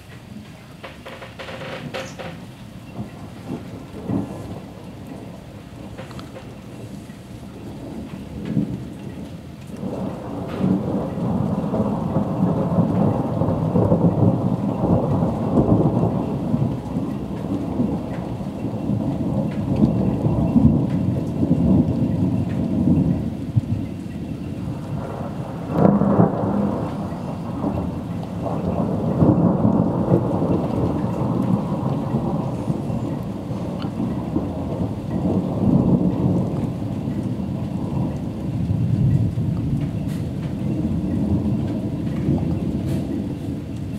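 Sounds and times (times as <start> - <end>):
thunder cracks: 0.0 - 43.9
thunder rolling: 0.0 - 43.9.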